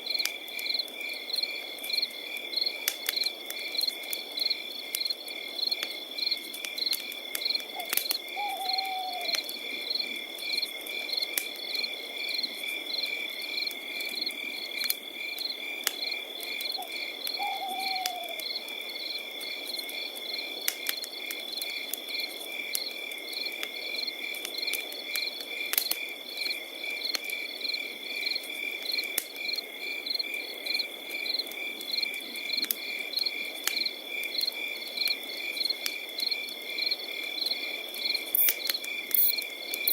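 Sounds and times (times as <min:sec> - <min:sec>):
campfire crackling and popping: 0:00.0 - 0:17.4, 0:18.0 - 0:39.9
crickets chirping: 0:00.1 - 0:39.9.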